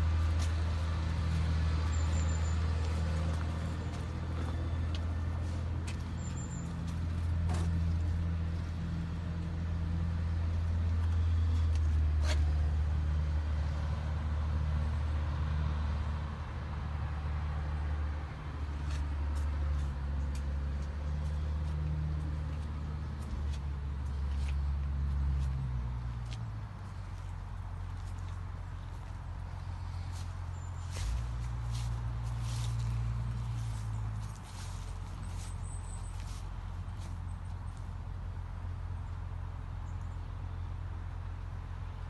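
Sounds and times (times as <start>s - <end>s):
tractor diesel engine running: 0.0s - 15.2s, 16.3s - 42.0s.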